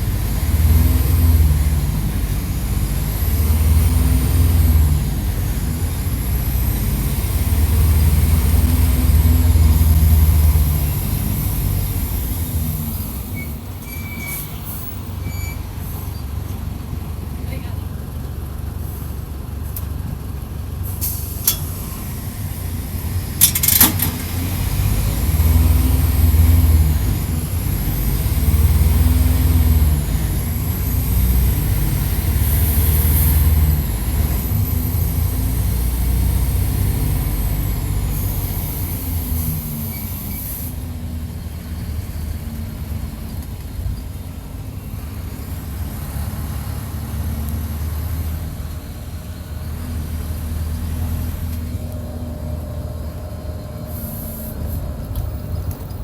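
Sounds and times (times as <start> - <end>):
bus engine revving: 0.0 - 56.0.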